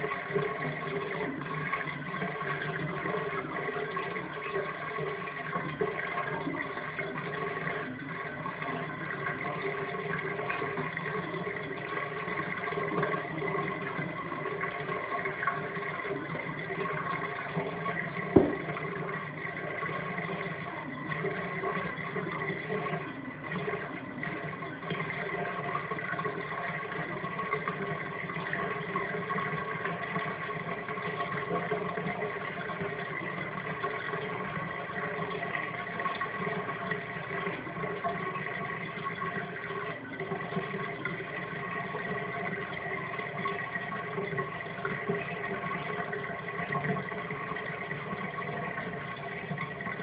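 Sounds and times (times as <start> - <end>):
constant hum: 0.0 - 50.0
water rushing down drain: 0.0 - 50.0.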